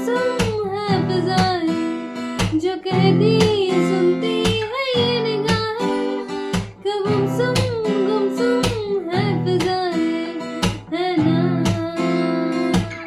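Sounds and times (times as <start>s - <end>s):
acoustic guitar strumming chords: 0.0s - 13.0s
person singing wordless melody: 2.5s - 13.0s.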